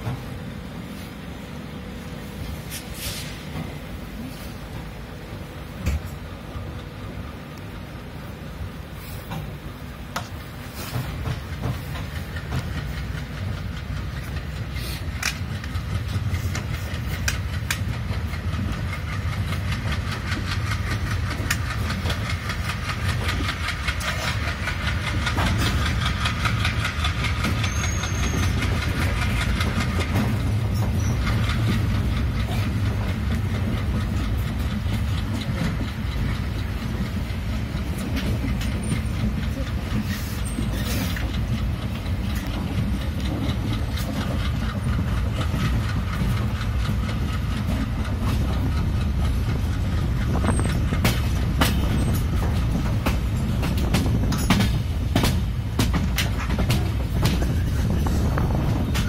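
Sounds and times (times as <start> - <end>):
clickety-clack over rail joints: 0.0 - 1.3, 2.0 - 59.0
train wheels rumbling: 0.0 - 59.0.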